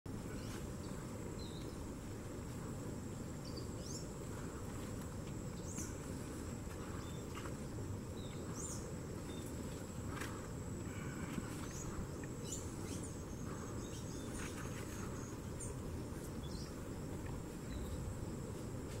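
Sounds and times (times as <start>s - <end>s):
low background noise: 0.1s - 19.0s.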